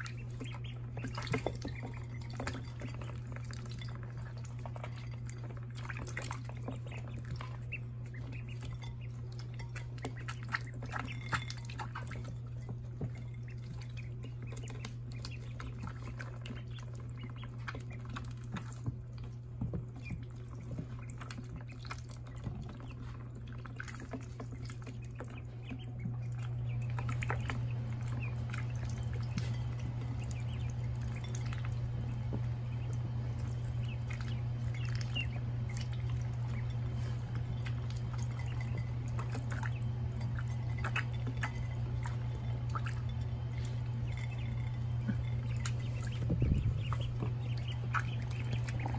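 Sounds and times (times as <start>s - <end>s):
ducklings dabbling in water: 0.0s - 48.9s
steady low hum: 0.0s - 48.9s.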